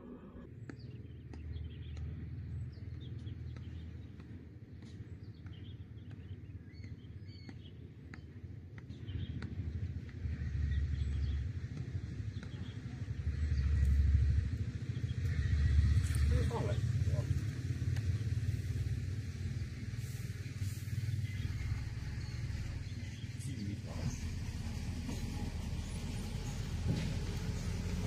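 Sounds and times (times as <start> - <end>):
birds chirping: 0.0 - 28.0
steady low rumble: 0.0 - 28.0.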